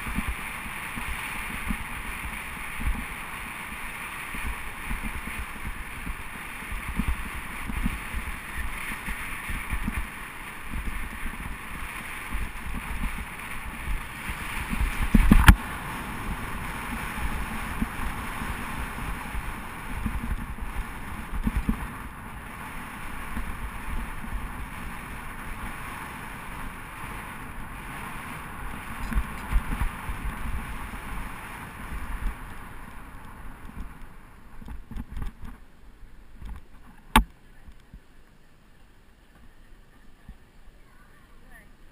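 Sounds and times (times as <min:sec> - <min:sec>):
wind buffeting microphone: 0:00.0 - 0:35.6
road and traffic noise: 0:00.0 - 0:41.9.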